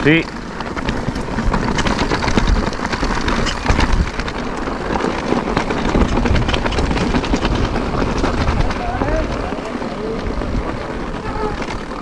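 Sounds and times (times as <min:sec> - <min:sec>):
small clicks and rattles: 0:00.0 - 0:12.0
wind buffeting microphone: 0:00.0 - 0:12.0.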